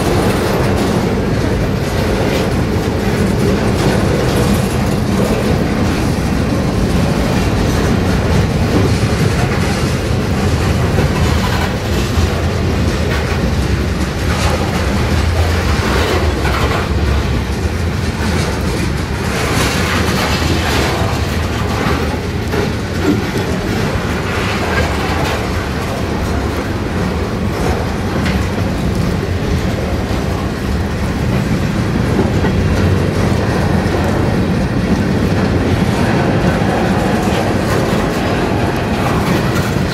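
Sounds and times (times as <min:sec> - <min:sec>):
freight train rumbling past: 0:00.0 - 0:39.9
wheels knocking over rail joints: 0:00.0 - 0:39.9.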